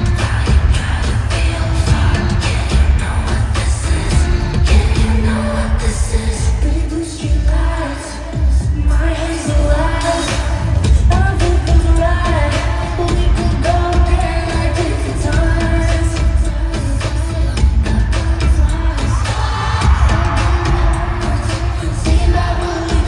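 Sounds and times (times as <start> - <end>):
heavy pounding bass beat: 0.0 - 7.8, 8.4 - 23.0
female singer: 0.0 - 23.0.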